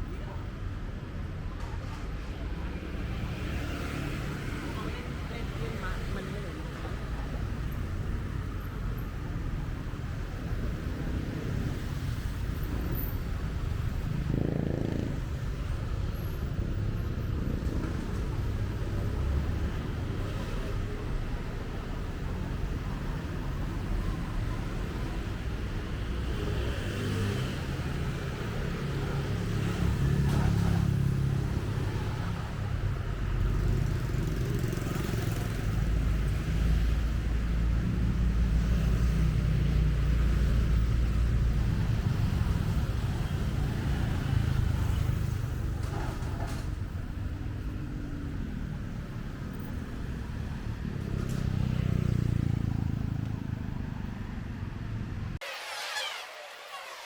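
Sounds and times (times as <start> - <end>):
vehicles passing with engine rumble: 0.0 - 56.2.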